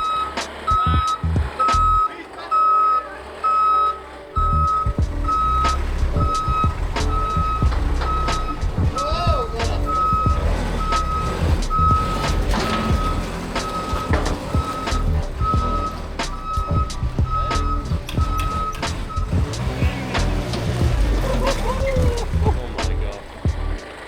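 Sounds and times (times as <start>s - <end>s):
reversing alarm beeping: 0.0s - 22.3s
engine rumbling: 0.0s - 24.0s
scattered knocks: 4.5s - 24.0s.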